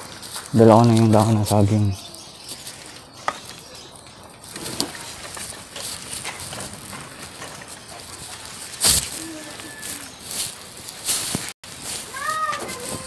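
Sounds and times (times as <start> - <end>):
leaves rustling against phone: 0.0 - 13.0.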